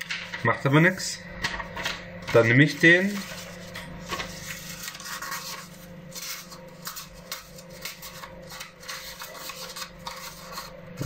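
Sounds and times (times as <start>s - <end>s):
paper rustling and crinkling: 0.0s - 0.7s, 1.4s - 11.0s.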